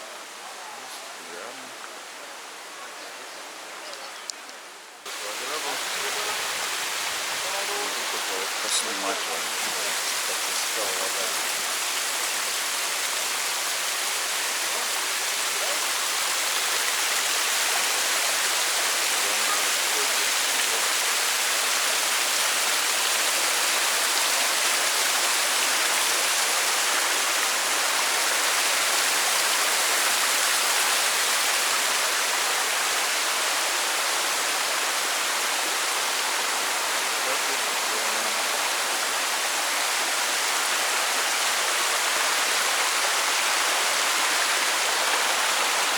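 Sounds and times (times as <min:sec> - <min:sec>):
small waterfall rushing: 0:00.0 - 0:45.9.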